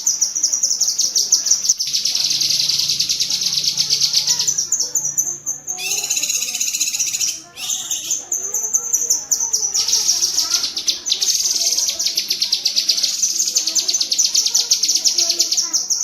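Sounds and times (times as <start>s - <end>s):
bird chattering song: 0.0s - 16.0s.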